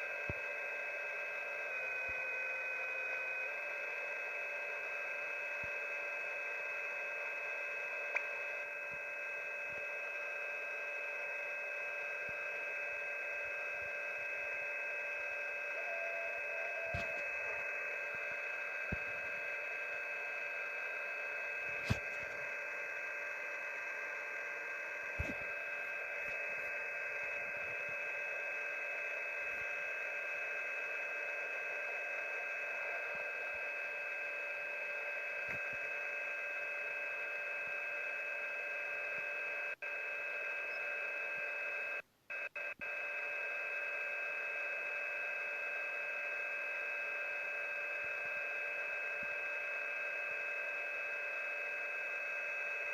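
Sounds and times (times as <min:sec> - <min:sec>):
radio static hiss: 0:00.0 - 0:52.9.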